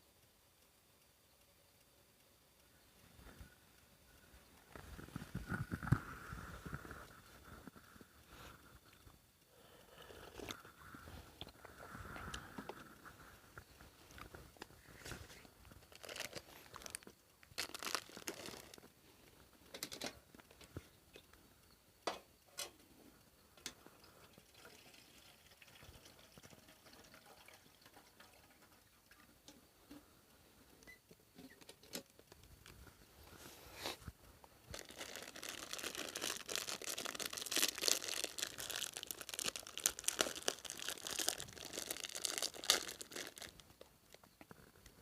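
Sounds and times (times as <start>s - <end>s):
faint crackles and rustles: 0.0s - 45.0s.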